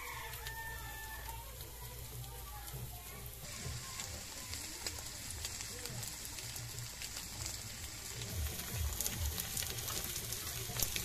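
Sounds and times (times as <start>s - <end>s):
fire crackling: 0.0s - 11.0s
offal sizzling in a pan: 0.0s - 11.0s.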